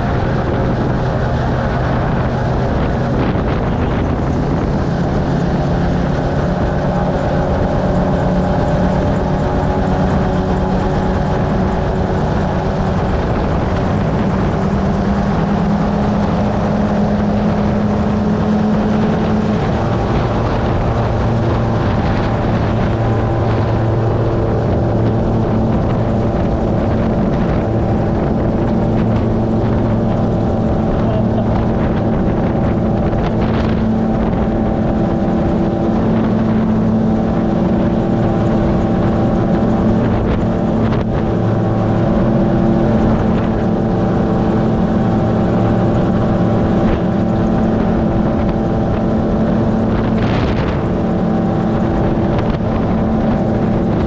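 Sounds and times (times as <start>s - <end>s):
engine and propeller running: 0.0s - 54.0s
wind rushing: 0.0s - 54.0s.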